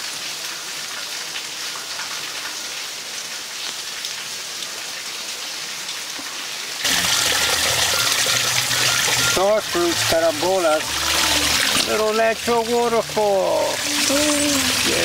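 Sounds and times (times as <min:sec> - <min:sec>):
dense rush of water: 0:00.0 - 0:15.0
rain falling on foliage: 0:00.0 - 0:15.0.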